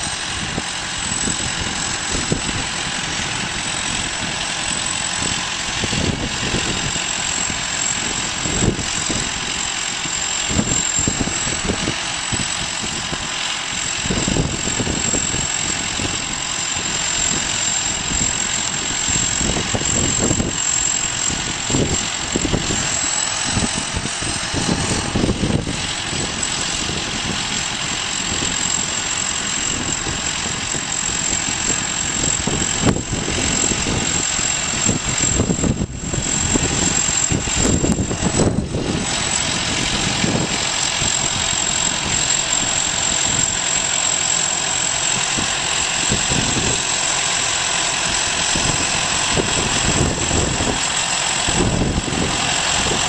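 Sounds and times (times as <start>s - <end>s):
diesel engine drone: 0.0s - 53.0s
high-pitched machine whine: 0.0s - 53.0s.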